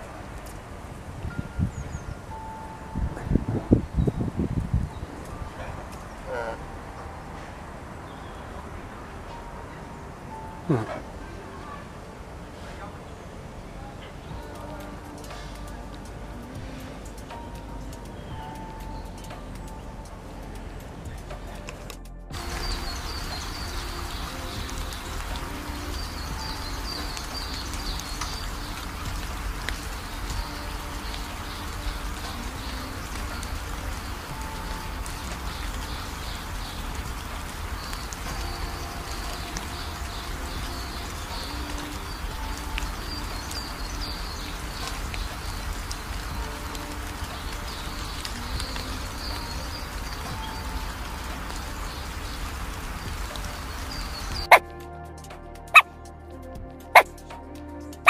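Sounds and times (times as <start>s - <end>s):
steady hiss like rain: 0.0s - 58.0s.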